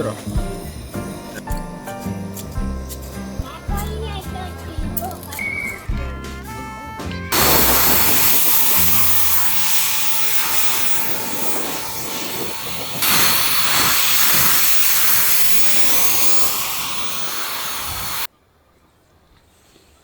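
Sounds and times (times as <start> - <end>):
loud steady hissing: 0.0 - 18.3.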